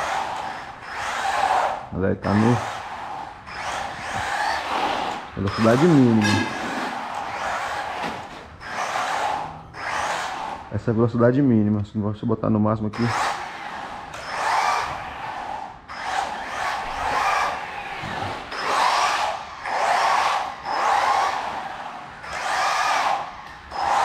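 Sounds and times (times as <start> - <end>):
electric motor whining: 0.0 - 11.1, 13.0 - 24.0.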